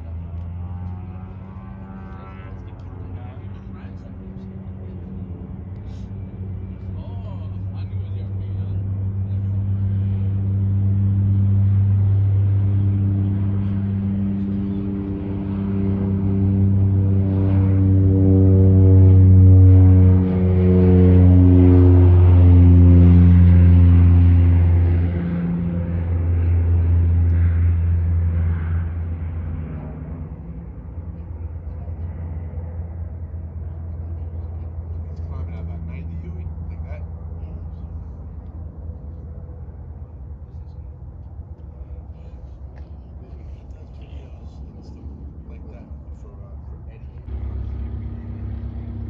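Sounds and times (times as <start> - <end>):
propeller plane engine running: 0.0 - 49.0.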